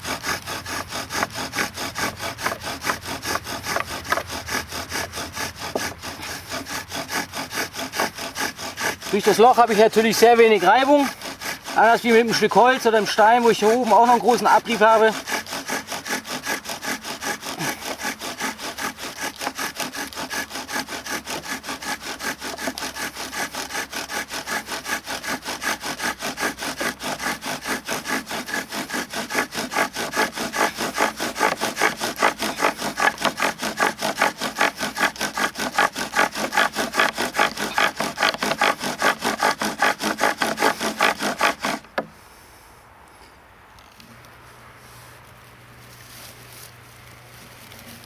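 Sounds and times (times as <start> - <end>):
knife grinding into wooden board: 0.0 - 42.0.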